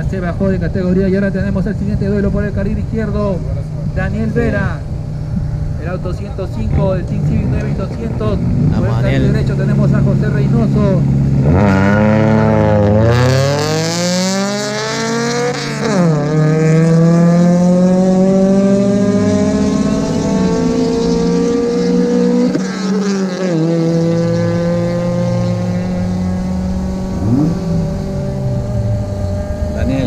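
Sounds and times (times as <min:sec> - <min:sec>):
racing car engines accelerating: 0:00.0 - 0:30.0.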